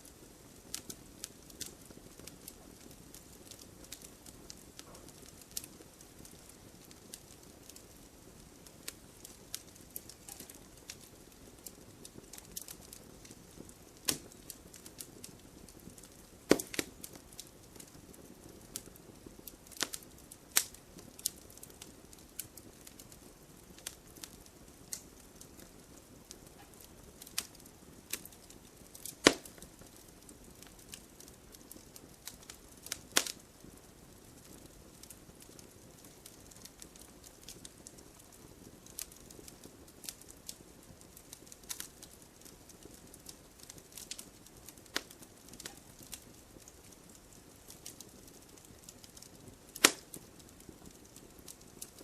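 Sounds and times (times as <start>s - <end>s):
hiss of flames: 0.0s - 52.0s
wood fire crackling: 0.0s - 52.0s
sharp fire pops: 0.1s - 52.0s.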